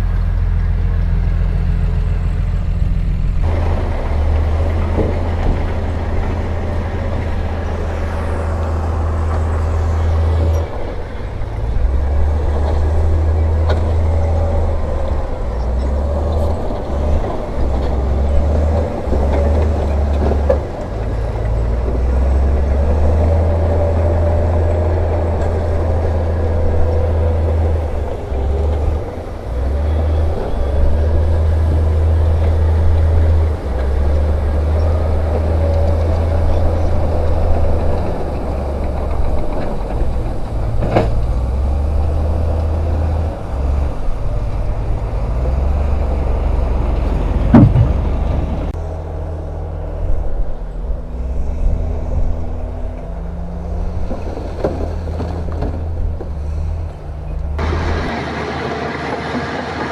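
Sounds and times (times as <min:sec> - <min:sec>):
diesel machinery rumbling: 0:00.0 - 0:59.9.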